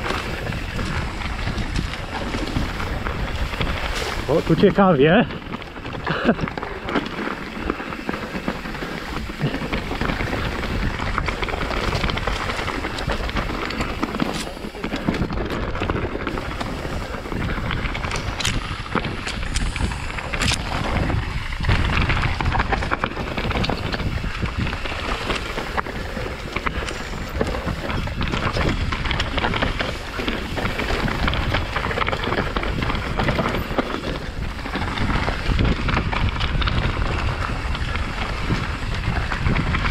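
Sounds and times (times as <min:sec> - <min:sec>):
bike rattling and clicking: 0:00.0 - 0:39.9
tyres rumbling over dirt: 0:00.0 - 0:39.9
wind on microphone: 0:00.0 - 0:39.9.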